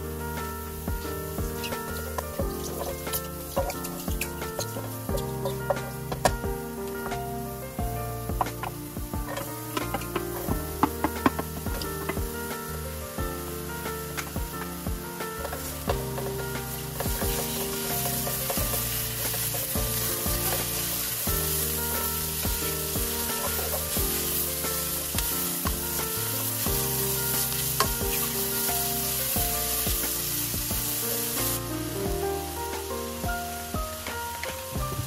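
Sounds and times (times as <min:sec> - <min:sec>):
background music: 0:00.0 - 0:35.0
mushrooms sizzling in a pan: 0:00.0 - 0:35.0.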